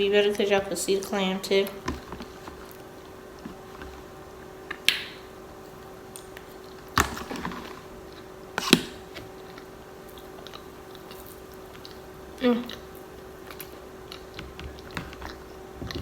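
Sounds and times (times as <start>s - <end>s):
steady faint hum: 0.0s - 16.0s.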